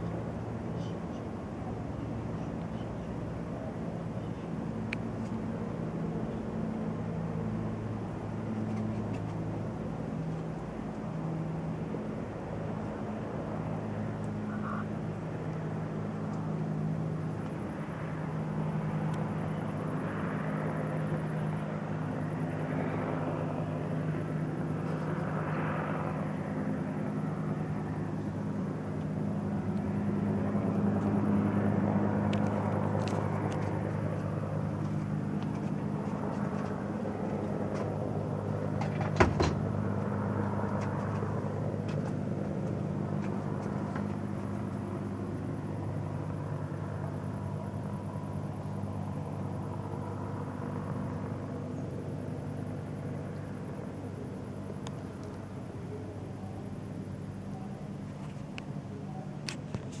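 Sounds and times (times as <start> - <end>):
helicopter engine and rotors drone: 0.0 - 60.0.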